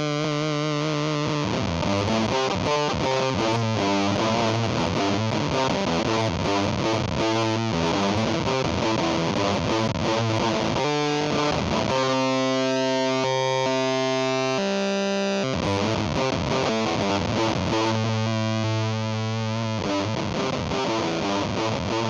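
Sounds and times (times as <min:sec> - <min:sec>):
fuzzy distorted electric guitar: 0:00.0 - 0:22.0.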